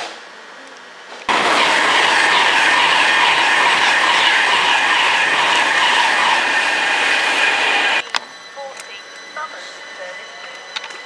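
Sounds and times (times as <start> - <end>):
train rushing past: 1.3 - 11.0.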